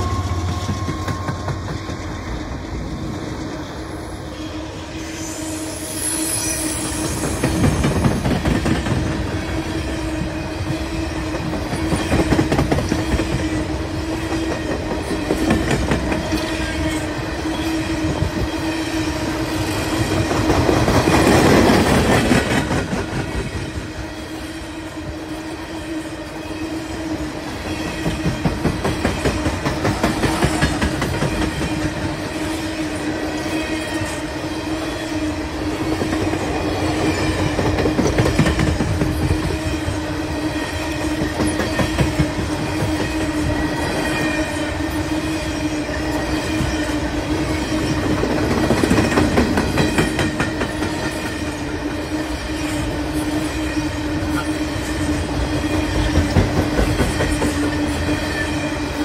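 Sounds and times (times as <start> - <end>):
train wheels clattering on rails: 0.0 - 4.4, 6.8 - 59.0
steady train hum: 0.0 - 59.0.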